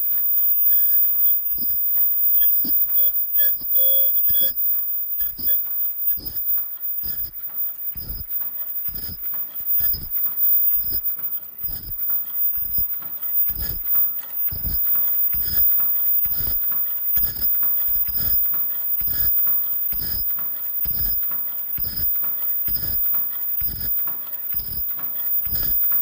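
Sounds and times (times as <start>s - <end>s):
machine knocking rhythmically: 0.0s - 26.0s.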